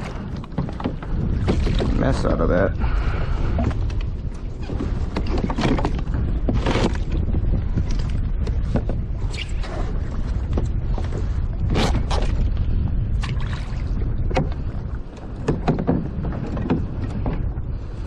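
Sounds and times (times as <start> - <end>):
handling noises on boat: 0.0 - 18.0
water moving around kayak hull: 0.0 - 18.0
wind buffeting microphone: 0.0 - 18.0.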